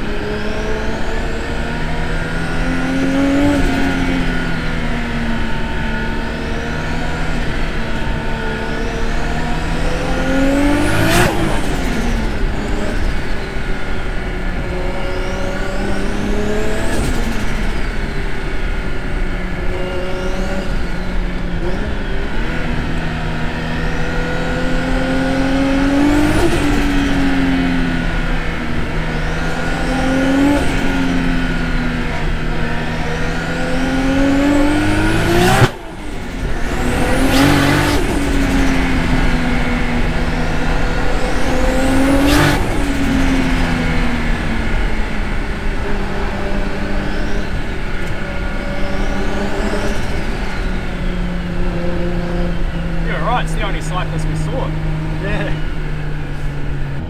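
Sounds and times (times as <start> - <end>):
turbocharged car engine revving: 0.0 - 57.0.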